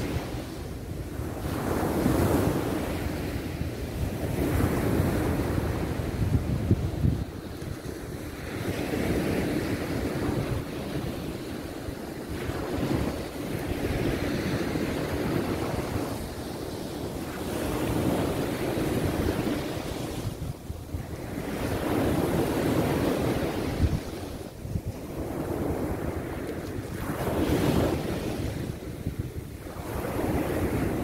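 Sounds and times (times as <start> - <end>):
waves breaking on a beach: 0.0 - 31.0
wind buffeting microphone: 0.0 - 31.0.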